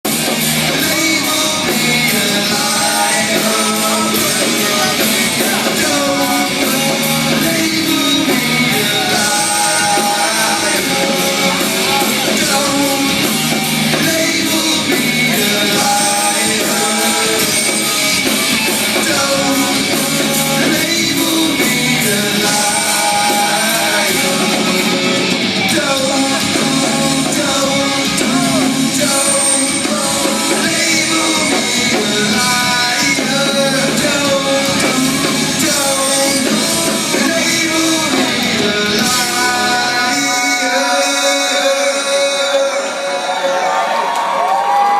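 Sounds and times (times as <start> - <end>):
rock song with singer: 0.0 - 44.9.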